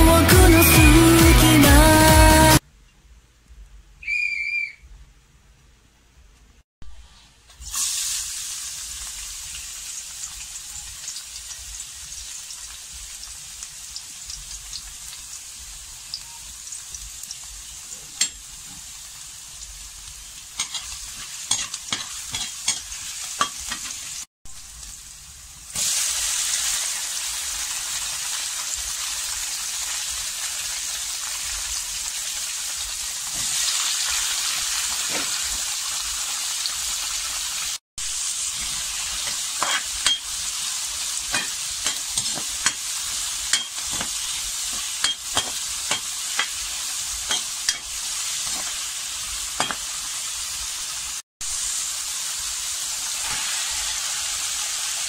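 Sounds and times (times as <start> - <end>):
garlic sizzling in hot oil: 7.5 - 55.0.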